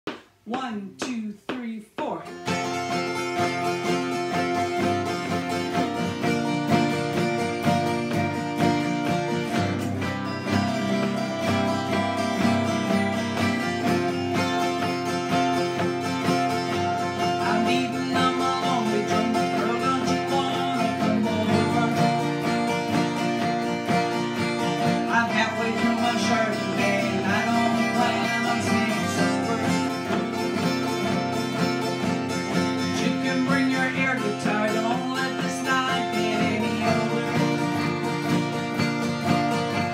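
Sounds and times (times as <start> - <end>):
acoustic guitars strumming: 2.1 - 39.9.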